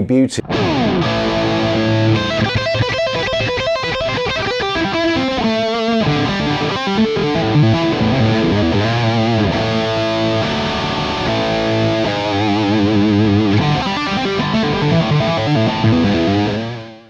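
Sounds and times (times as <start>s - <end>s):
electric guitar lead with vibrato: 0.4s - 17.0s.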